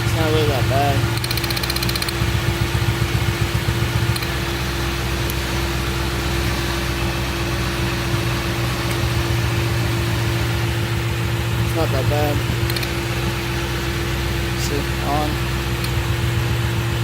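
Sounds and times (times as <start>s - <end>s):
car engine idling roughly: 0.0s - 17.0s.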